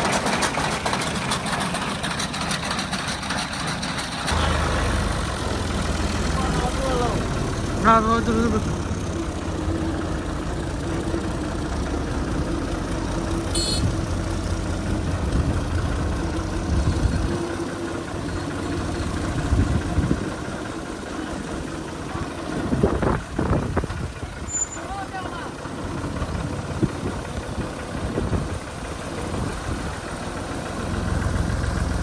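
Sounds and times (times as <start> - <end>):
diesel tractor engine running: 0.0 - 32.0.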